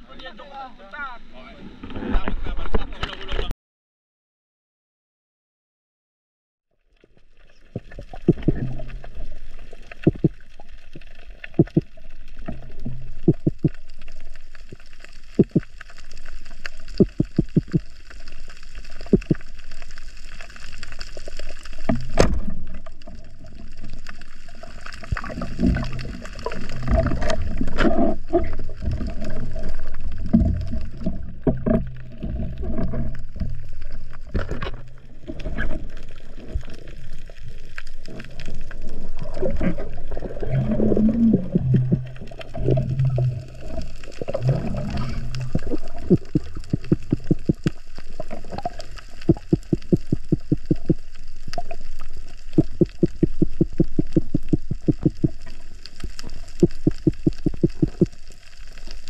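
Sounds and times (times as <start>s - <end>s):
water gurgling and sloshing: 6.8s - 59.0s.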